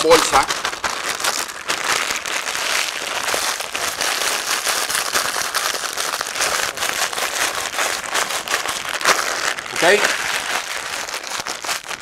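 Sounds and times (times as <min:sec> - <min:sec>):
snack bag crinkling: 0:00.0 - 0:12.0.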